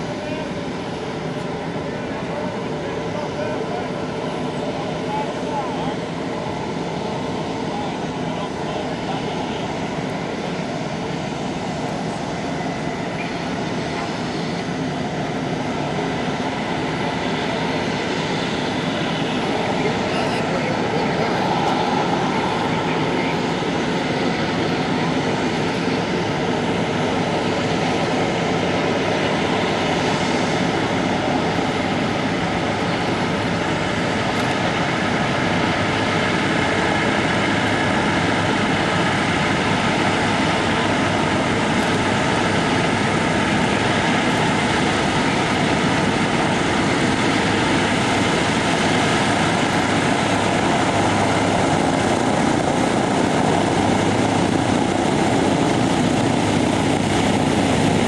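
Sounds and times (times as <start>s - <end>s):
propeller engines droning: 0.0s - 58.0s.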